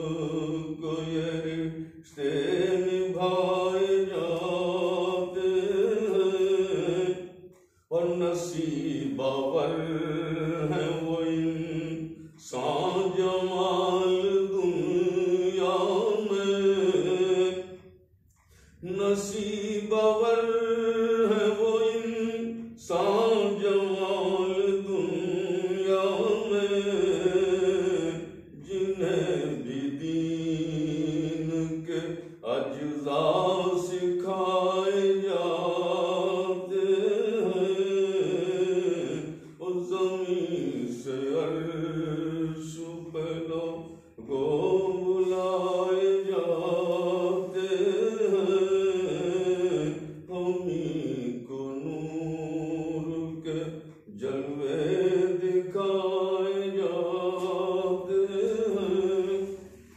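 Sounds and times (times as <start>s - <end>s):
man chanting: 0.0s - 7.1s, 7.9s - 17.6s, 18.8s - 59.8s.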